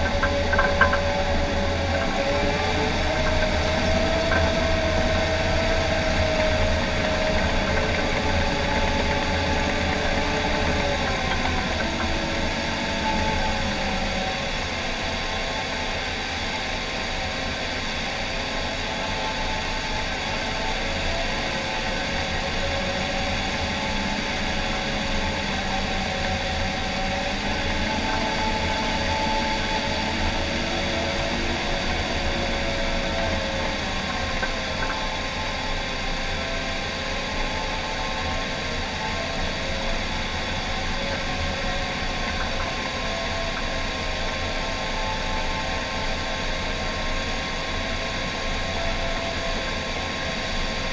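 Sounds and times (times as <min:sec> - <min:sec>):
bulldozer diesel engine running: 0:00.0 - 0:50.9
whine drifting in pitch: 0:00.0 - 0:50.9.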